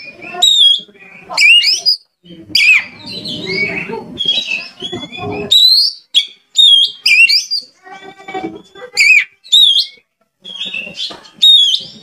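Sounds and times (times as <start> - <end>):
bird singing whistled song: 0.0 - 7.7, 9.0 - 12.0.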